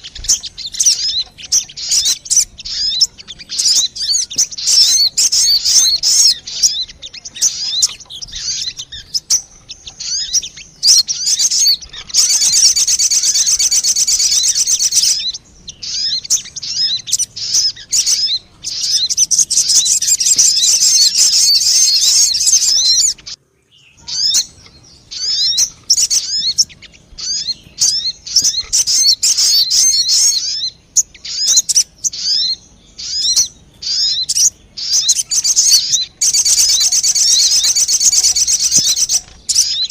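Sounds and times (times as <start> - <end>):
bird lure chirps and trills: 0.0 - 23.4, 24.0 - 39.9.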